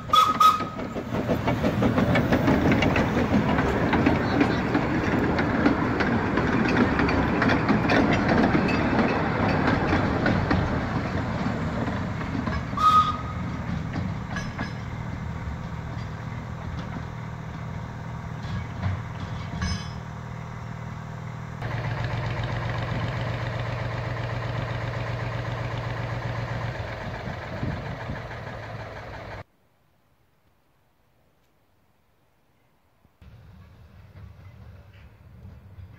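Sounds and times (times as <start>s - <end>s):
train running: 0.0s - 29.5s, 33.2s - 35.9s.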